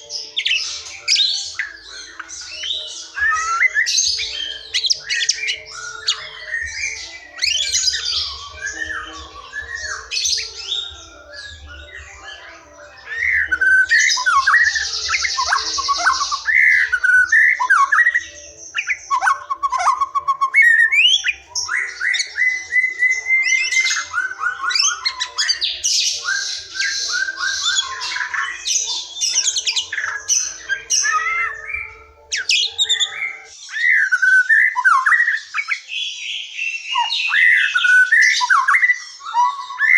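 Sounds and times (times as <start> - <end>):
bird harsh rasping chatter: 0.0 - 35.9
bird singing whistled song: 0.0 - 39.9.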